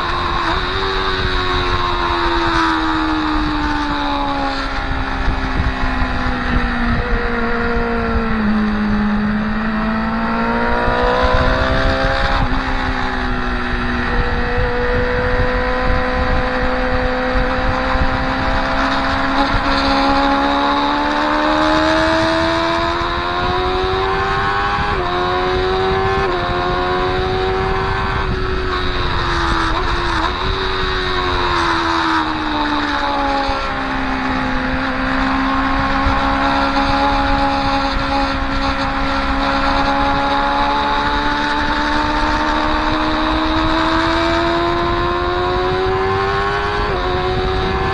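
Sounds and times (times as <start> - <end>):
low rush of wind: 0.0 - 47.9
motorcycle engine at speed: 0.0 - 47.9.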